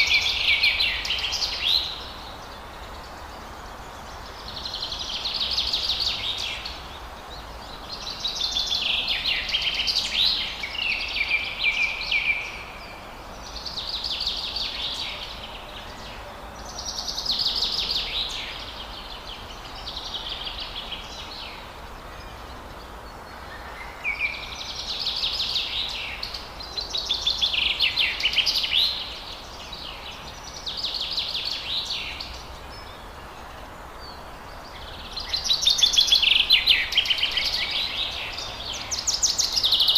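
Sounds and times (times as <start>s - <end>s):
birds singing trilled songs: 0.0s - 39.9s
steady background hiss: 0.0s - 39.9s.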